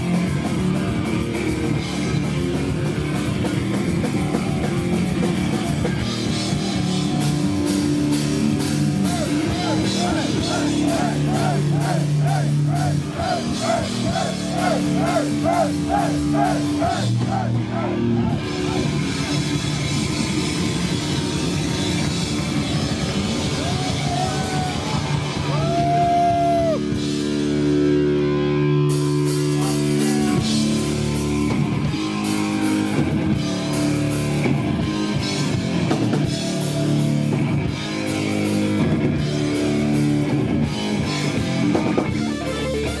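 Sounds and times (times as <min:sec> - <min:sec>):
pounding drum kit: 0:00.0 - 0:27.8, 0:28.9 - 0:43.0
bass guitar: 0:00.0 - 0:43.0
distorted electric guitars: 0:00.0 - 0:43.0.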